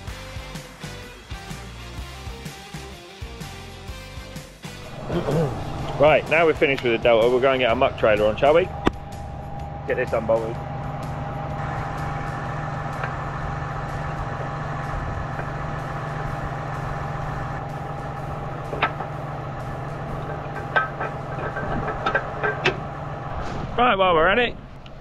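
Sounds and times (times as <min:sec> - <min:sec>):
tractor engine idling: 0:04.7 - 0:25.0.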